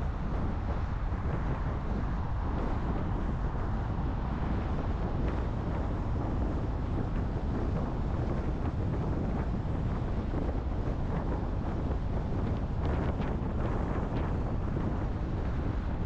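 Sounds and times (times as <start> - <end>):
road and tyre noise: 0.0 - 16.0
wind buffeting microphone: 0.0 - 16.0.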